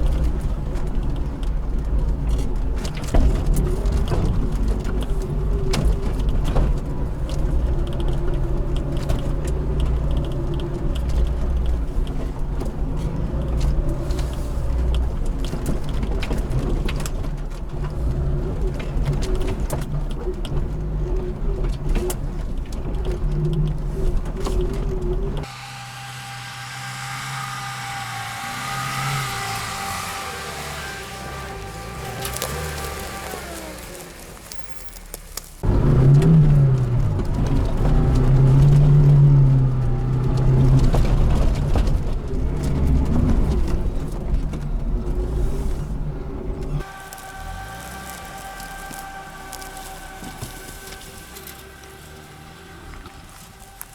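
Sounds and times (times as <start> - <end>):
car engine rumbling off-road: 0.0 - 53.9.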